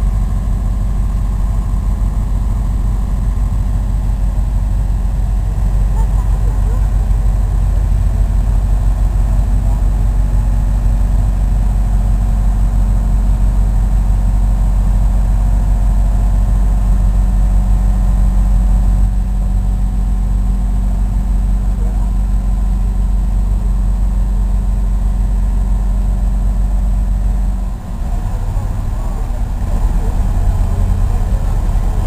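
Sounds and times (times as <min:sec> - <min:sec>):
boat engines running low: 0:00.0 - 0:32.0.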